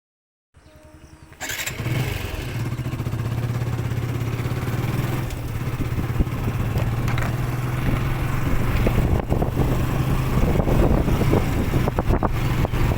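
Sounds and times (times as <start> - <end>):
motorcycle engine starting and running: 0.6 - 12.9.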